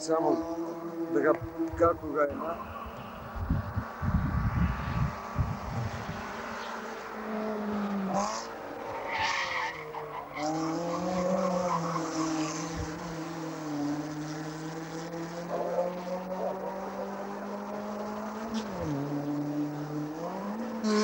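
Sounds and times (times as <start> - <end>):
racing car engine pulling hard: 0.0 - 21.0.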